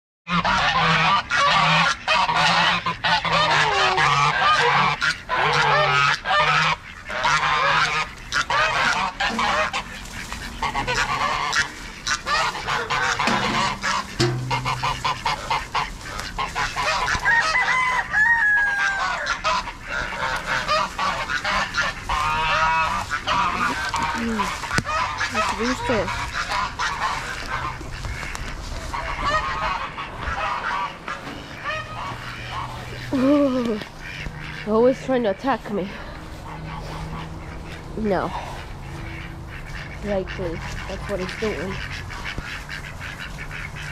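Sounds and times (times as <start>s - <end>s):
geese honking: 0.3s - 43.9s.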